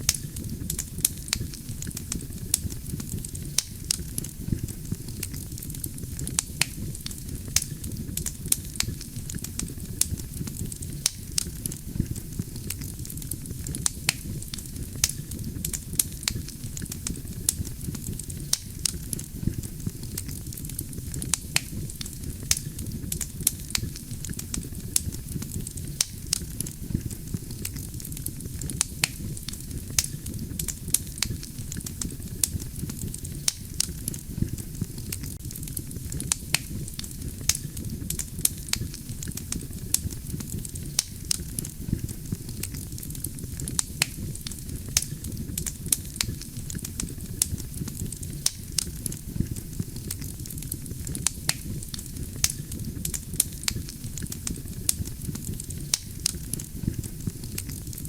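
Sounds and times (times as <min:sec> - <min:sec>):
wood fire burning: 0:00.0 - 0:58.0.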